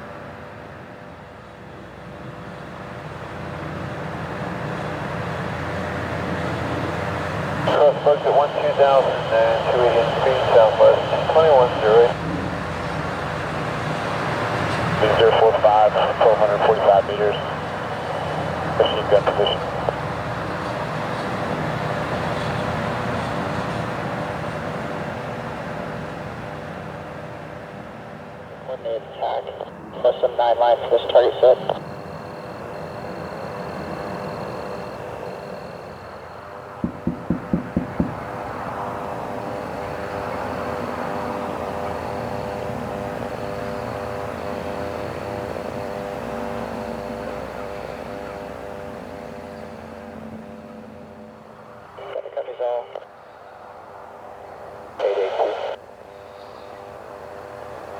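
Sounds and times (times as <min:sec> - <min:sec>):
aircraft engines droning: 0:00.0 - 0:57.9.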